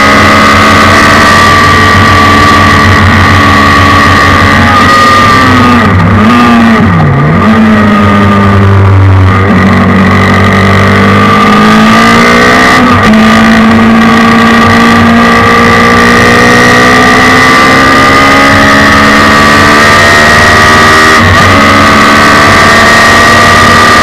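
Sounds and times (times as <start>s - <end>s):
motorcycle engine accelerating hard: 0.0s - 24.0s.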